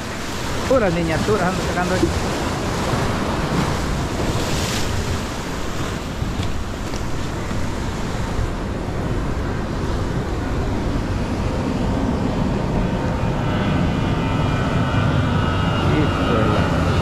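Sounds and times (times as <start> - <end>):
distant engine drone: 0.0 - 17.0
surf: 0.0 - 17.0
wind buffeting: 0.0 - 17.0.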